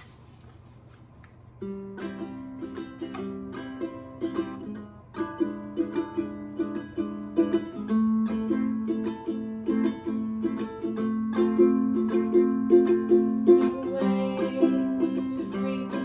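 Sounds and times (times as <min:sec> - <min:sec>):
plucked string instrument melody: 0:01.6 - 0:16.0.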